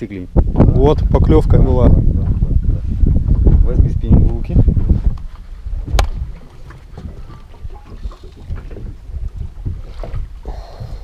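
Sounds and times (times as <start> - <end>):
wind buffeting microphone: 0.0 - 11.0
water slapping against boat hull: 1.9 - 11.0.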